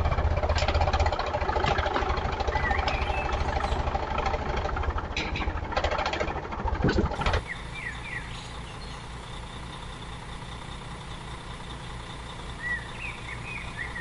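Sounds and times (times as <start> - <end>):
engine idling with chugging knock: 0.0 - 14.0.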